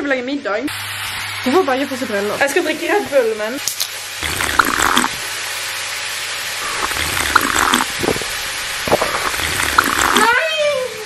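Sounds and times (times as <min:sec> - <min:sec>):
food sizzling in a pan: 0:00.1 - 0:11.0.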